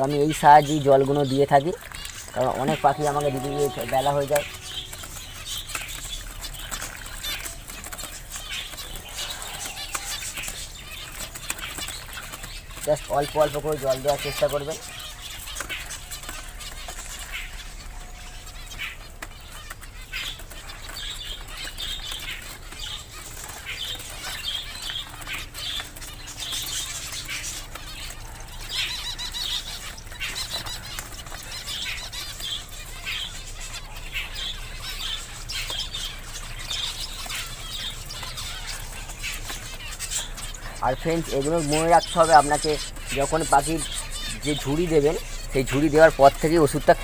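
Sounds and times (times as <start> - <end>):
finches chirping: 0.0 - 47.0
wings flapping: 0.0 - 47.0.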